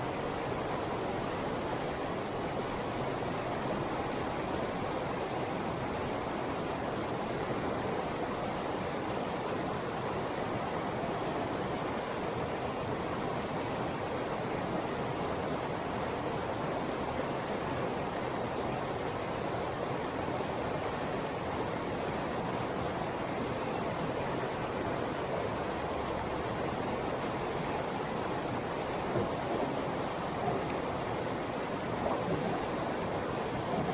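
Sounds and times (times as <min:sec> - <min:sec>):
river water rushing and babbling: 0:00.0 - 0:33.9.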